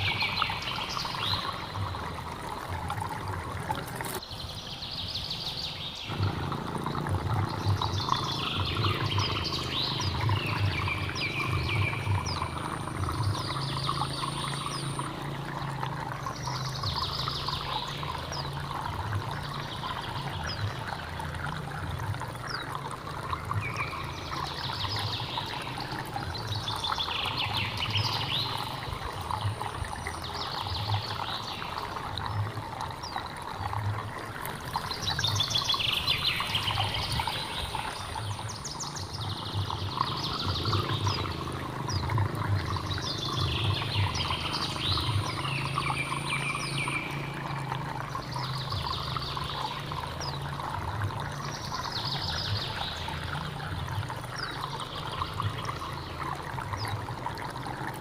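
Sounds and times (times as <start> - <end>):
birds singing: 0.0 - 58.0
stream trickling and splashing: 0.0 - 58.0.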